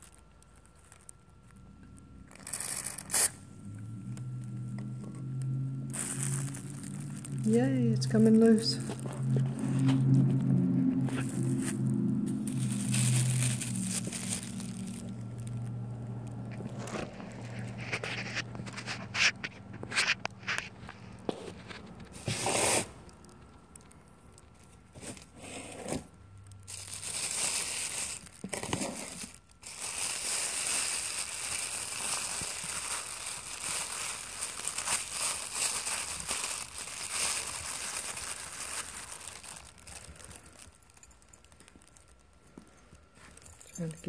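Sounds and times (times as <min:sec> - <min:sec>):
plastic sheeting crinkling: 0:00.0 - 0:01.6, 0:05.3 - 0:25.5, 0:26.4 - 0:42.5.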